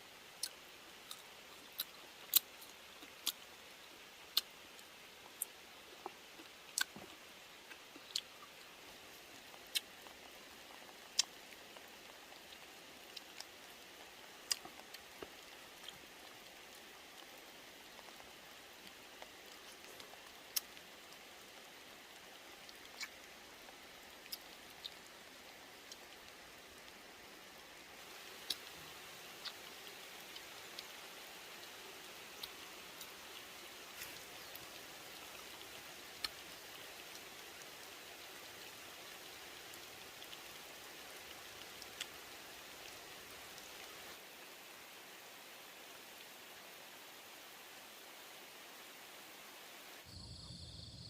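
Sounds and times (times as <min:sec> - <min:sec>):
faint steady hiss: 0:00.0 - 0:51.0
sharp ticks and drips: 0:00.1 - 0:48.1.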